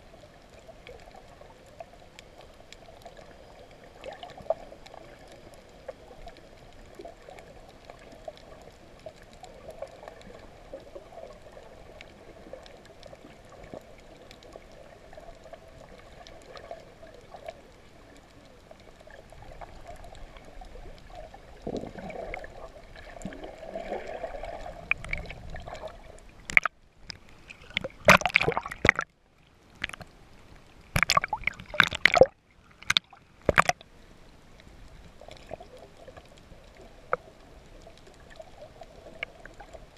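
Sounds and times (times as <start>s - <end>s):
faint clicking: 0.0s - 39.9s
water splashing and sloshing: 0.0s - 39.9s.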